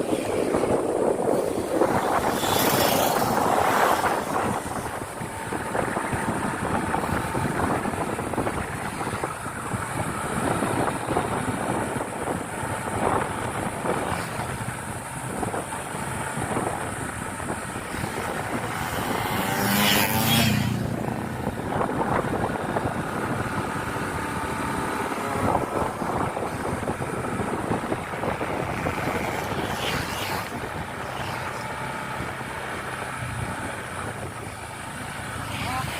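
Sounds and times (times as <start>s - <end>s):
road traffic: 0.0s - 35.9s
vehicle passing close by: 0.0s - 35.9s.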